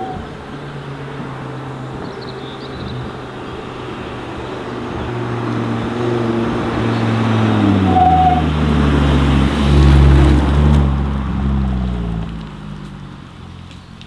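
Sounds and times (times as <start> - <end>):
car engine approaching: 0.0 - 14.0.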